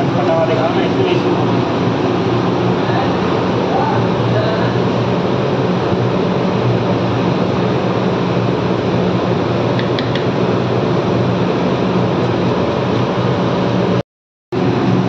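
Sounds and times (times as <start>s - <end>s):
kitchen exhaust fan humming: 0.0s - 14.0s, 14.6s - 15.0s.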